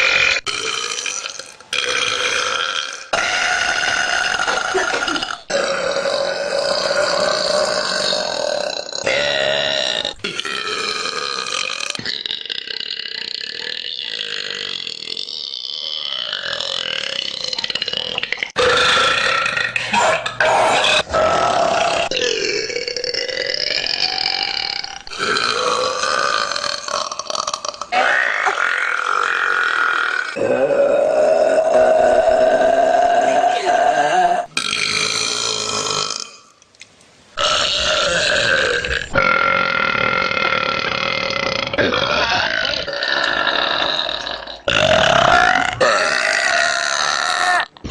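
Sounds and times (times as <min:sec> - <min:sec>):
woman burping: 0:00.0 - 0:36.4, 0:37.4 - 0:47.9.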